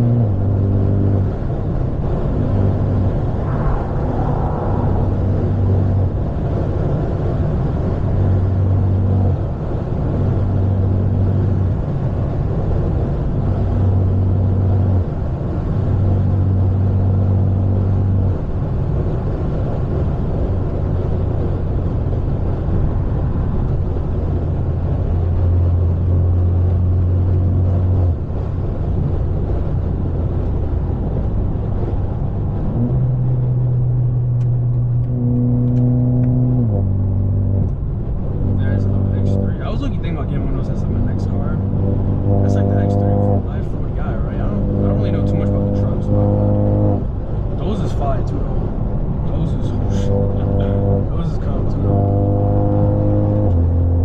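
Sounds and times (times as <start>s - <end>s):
car exhaust drone: 0.0s - 54.0s.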